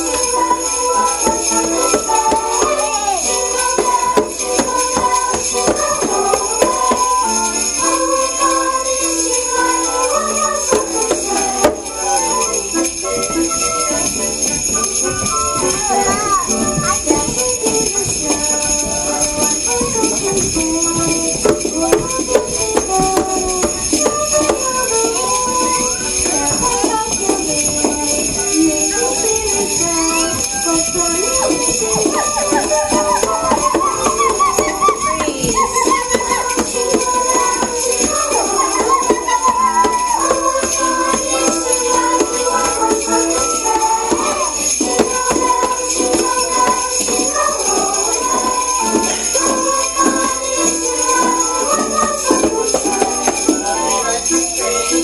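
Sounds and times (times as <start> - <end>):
instrumental music: 0.0 - 55.0
sleigh bells jingling: 0.0 - 55.0.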